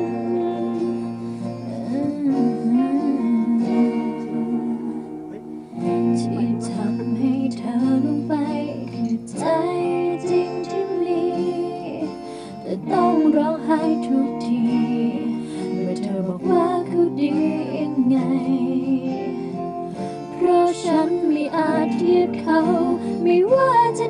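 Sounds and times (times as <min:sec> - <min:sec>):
guitar and chord accompaniment: 0:00.0 - 0:24.0
person singing pop ballad: 0:00.0 - 0:24.0.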